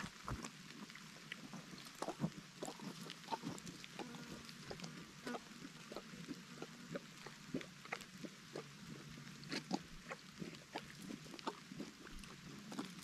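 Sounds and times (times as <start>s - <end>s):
donkey crunching food: 0.0s - 13.0s.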